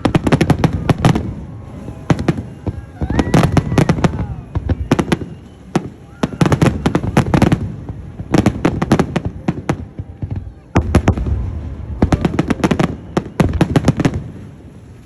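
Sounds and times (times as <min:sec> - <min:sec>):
fireworks cracking and banging: 0:00.0 - 0:15.0.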